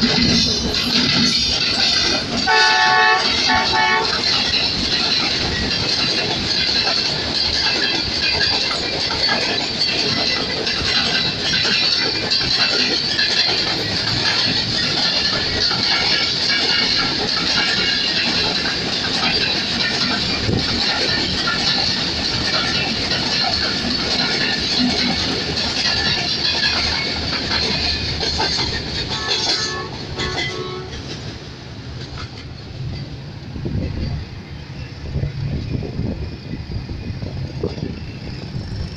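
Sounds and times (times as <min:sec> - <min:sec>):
train coaches rolling past: 0:00.0 - 0:38.9.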